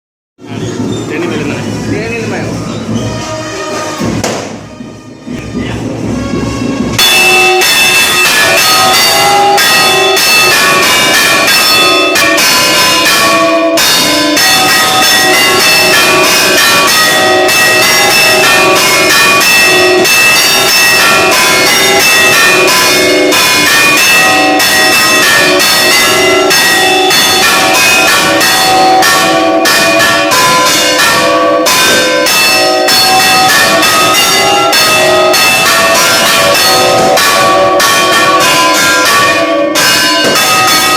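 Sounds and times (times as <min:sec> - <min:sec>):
church bells ringing: 0:04.8 - 0:40.9.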